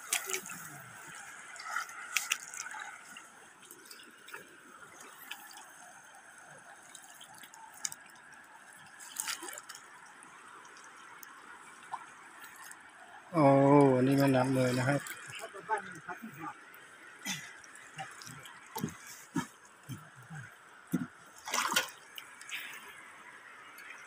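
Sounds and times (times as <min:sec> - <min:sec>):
feet wading through water: 0:00.0 - 0:24.0.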